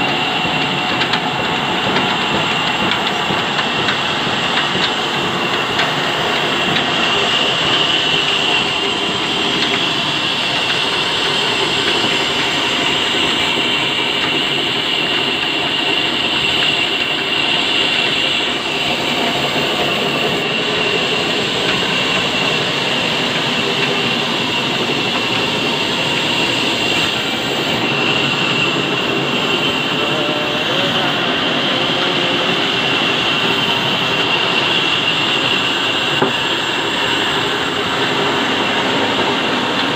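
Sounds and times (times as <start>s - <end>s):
band saw blade whine: 0.0s - 39.9s
old engine running: 0.0s - 39.9s.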